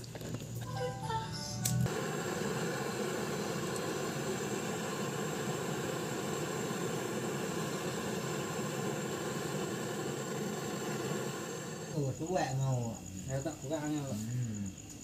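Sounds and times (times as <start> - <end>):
gas torch flame hissing: 1.6 - 14.9.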